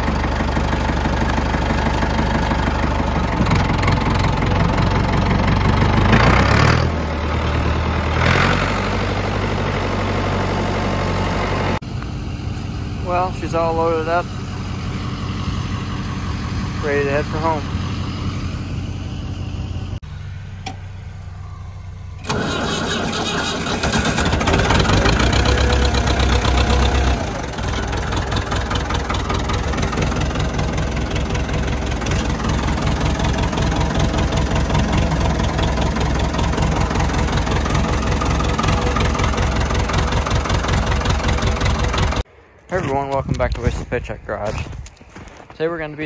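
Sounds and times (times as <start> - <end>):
pickup engine idling: 0.0 - 6.2, 8.9 - 42.3
tractor diesel engine starting: 0.0 - 43.3.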